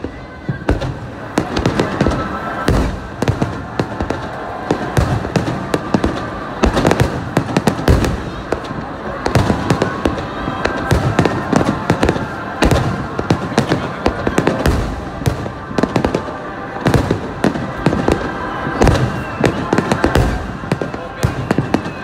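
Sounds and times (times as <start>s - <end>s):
fireworks bangs and crackling: 0.0s - 22.0s
heavy firework booms: 0.0s - 22.0s.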